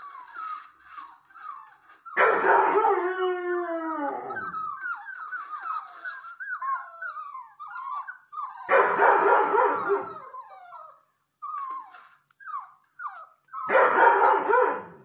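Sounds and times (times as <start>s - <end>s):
dog howling and whining: 0.0s - 15.0s.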